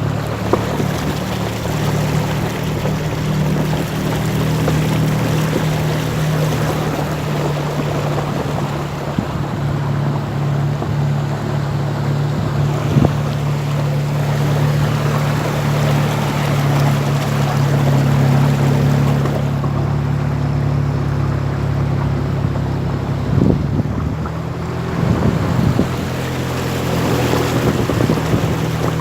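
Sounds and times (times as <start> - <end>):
low motor hum: 0.0 - 29.0
rainwater rushing along street: 0.0 - 29.0.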